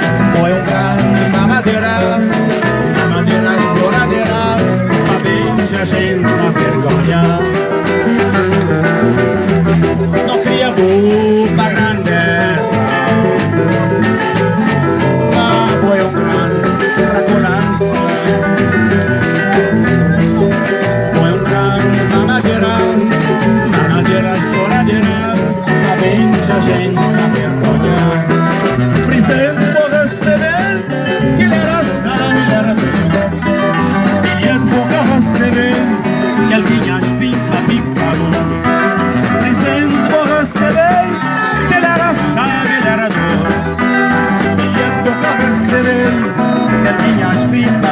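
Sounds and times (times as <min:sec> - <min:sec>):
live band guitars: 0:00.0 - 0:47.9
percussive beat: 0:00.0 - 0:47.9.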